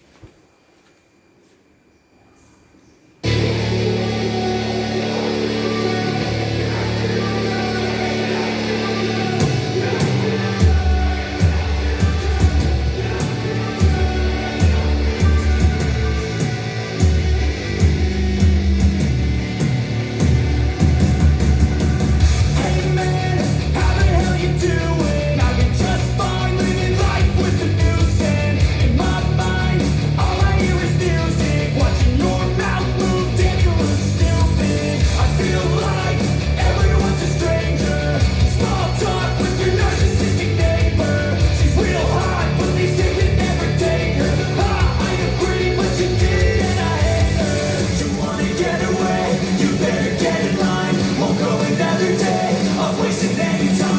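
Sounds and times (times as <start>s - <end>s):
rock song with singing: 3.2s - 53.9s.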